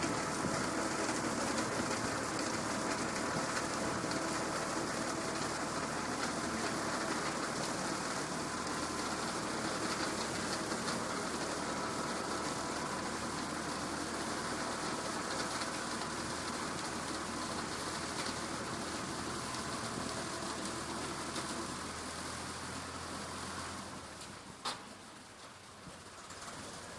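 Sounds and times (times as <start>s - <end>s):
constant hiss: 0.0s - 26.9s
tractor engine running: 0.0s - 26.9s.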